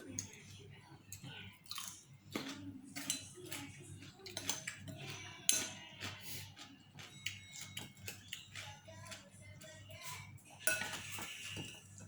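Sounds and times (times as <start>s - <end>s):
cutlery clinking against a bowl: 0.0s - 12.0s.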